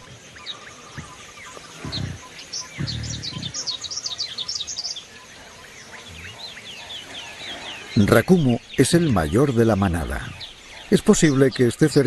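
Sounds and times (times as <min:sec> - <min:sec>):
forest birds chirping: 0:00.0 - 0:12.0.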